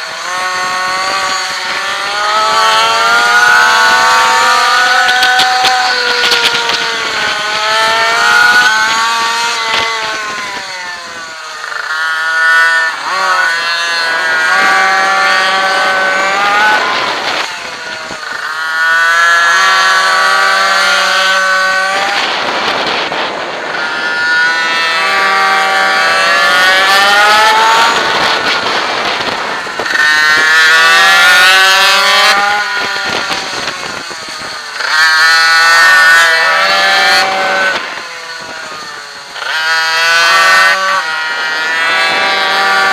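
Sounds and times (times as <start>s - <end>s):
second bike engine: 0.0s - 42.9s
two-stroke engine at full throttle: 0.0s - 42.9s.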